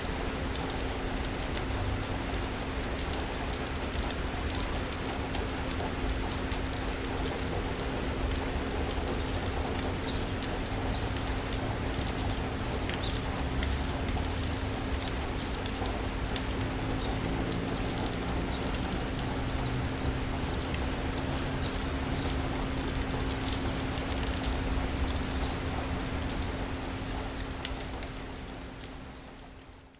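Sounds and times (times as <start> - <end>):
rain hiss: 0.0 - 29.9
raindrops ticking: 0.0 - 29.9.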